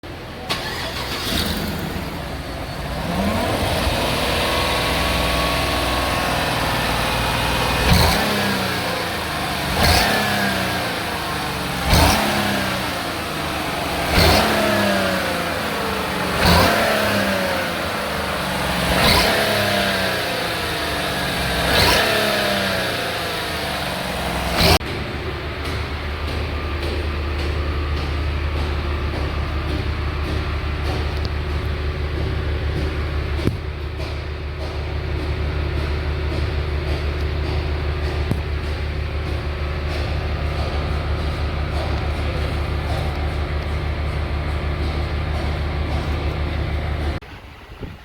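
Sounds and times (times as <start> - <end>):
car engine revving: 0.0 - 47.2
engine knock: 0.0 - 48.0.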